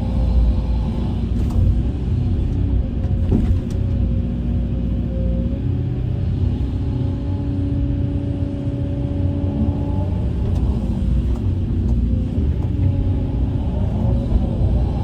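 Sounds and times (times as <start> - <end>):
heavy machine engine rumbling: 0.0 - 15.0.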